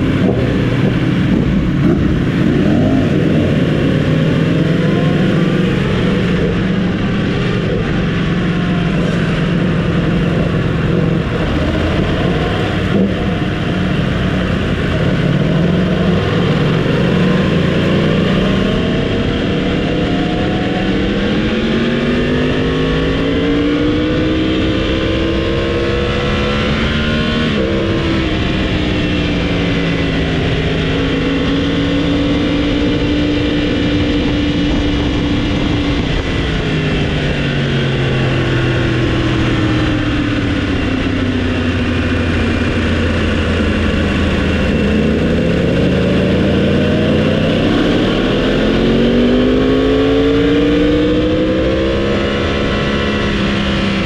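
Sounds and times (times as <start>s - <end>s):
motorcycle engine at speed: 0.0s - 54.0s.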